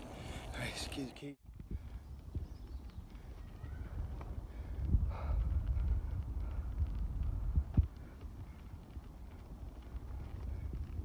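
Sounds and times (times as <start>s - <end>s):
wind rumbling on microphone: 1.4s - 11.0s.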